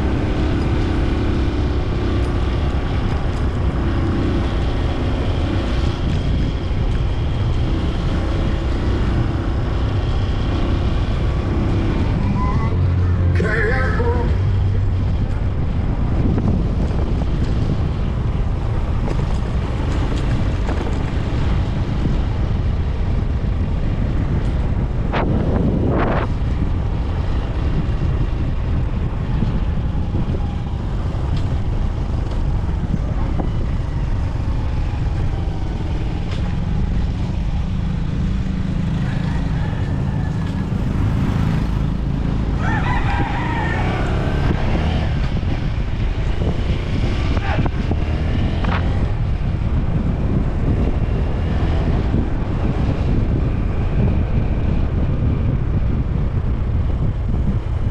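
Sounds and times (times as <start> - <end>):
motorcycle engine running: 0.0 - 57.9
wind noise on microphone: 0.0 - 57.9.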